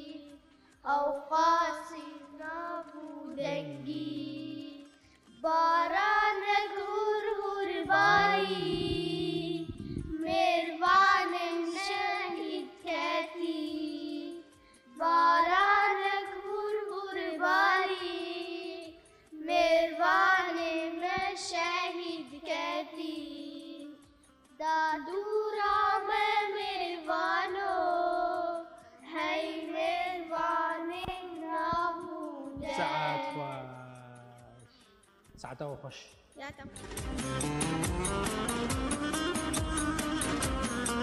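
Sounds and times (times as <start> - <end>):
children singing: 0.0 - 24.0, 24.6 - 34.4.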